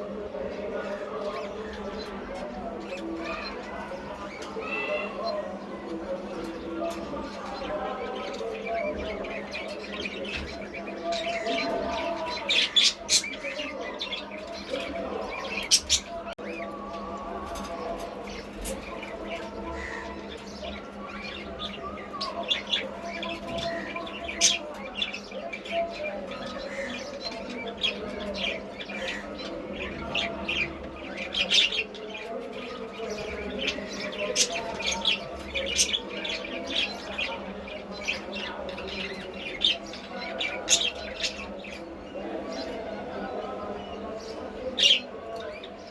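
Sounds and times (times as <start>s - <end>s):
baby pigeons squeaking: 0.5s - 45.9s.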